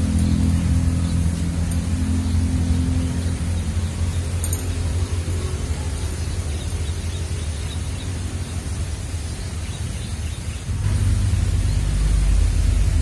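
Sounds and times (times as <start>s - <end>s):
low engine-like drone: 0.0s - 13.0s.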